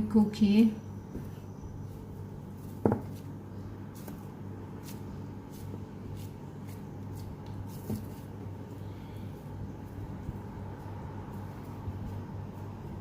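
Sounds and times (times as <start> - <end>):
steady low hum: 0.0 - 13.0
rustling of hands shaping dough: 0.7 - 13.0.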